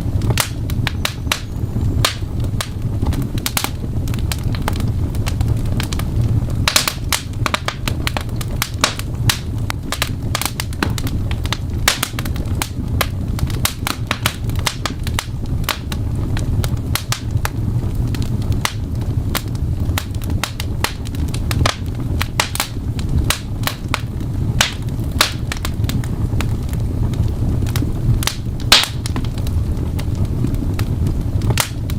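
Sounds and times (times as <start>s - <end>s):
fire crackling and popping: 0.0s - 31.9s
low fire rumble: 0.0s - 31.9s.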